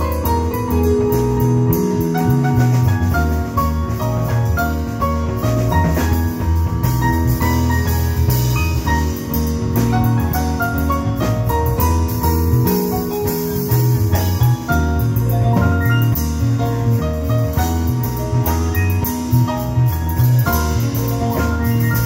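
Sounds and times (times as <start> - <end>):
bass: 0.0 - 22.0
drums with cymbals: 0.0 - 22.0.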